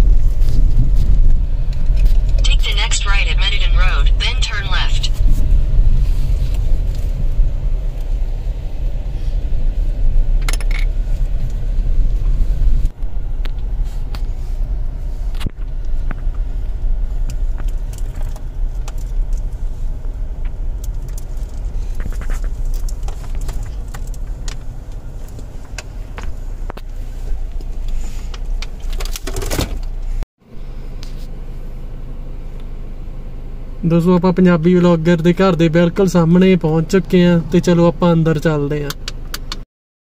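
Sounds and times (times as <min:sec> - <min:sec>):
car engine and tyres rumbling: 0:00.0 - 0:39.6.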